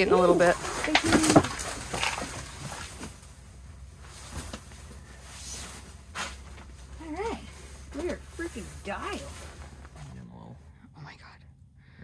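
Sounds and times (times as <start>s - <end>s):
sleeping bag rustling: 0.0s - 10.3s
steady low hum: 0.0s - 12.0s.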